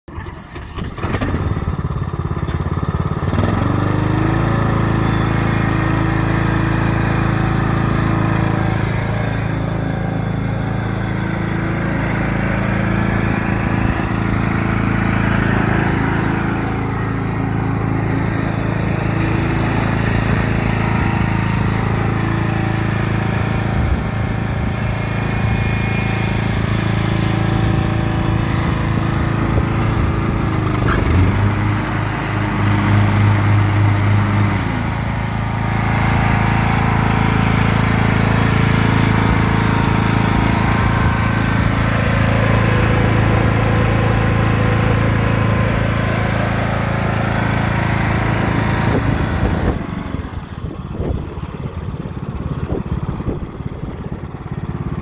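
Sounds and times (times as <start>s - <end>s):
riding lawn mower engine: 0.0s - 55.0s
mower driving over gravel: 0.1s - 55.0s.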